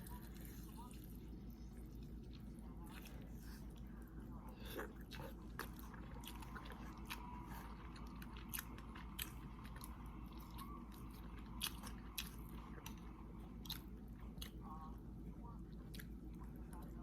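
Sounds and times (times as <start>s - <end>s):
low steady hum: 0.0s - 17.0s
person chewing wetly: 0.0s - 17.0s.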